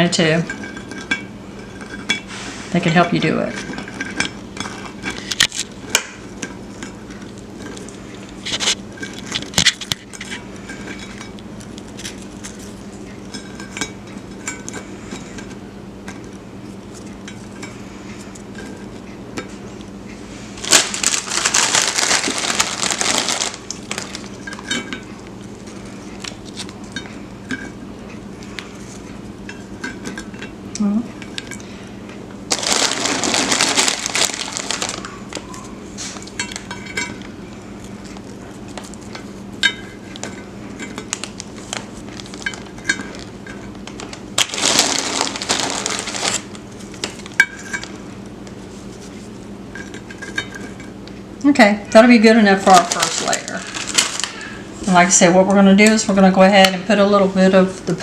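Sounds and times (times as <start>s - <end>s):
low steady hum: 0.0s - 58.0s
crinkly rustling: 1.8s - 15.6s, 16.2s - 30.3s, 32.4s - 51.0s, 51.8s - 56.3s.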